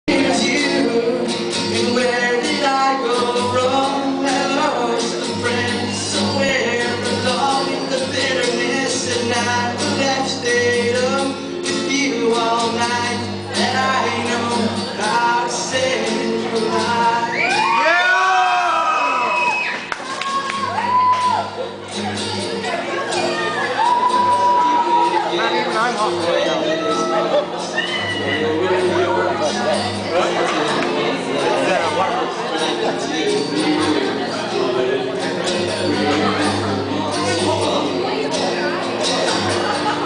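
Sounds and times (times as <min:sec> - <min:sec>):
man singing: 0:00.0 - 0:18.5, 0:24.3 - 0:40.0
strummed acoustic guitar: 0:00.1 - 0:17.9, 0:19.8 - 0:40.0.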